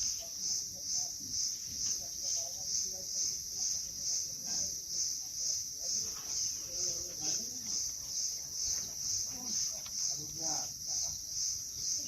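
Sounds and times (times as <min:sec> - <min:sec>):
cricket chirping: 0:00.0 - 0:12.0
faint voices: 0:00.0 - 0:12.0.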